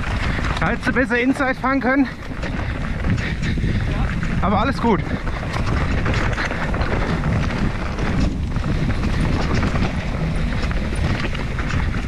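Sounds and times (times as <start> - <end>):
bike clicks and rattles: 0.0 - 12.0
wind rumble on microphone: 0.0 - 12.0.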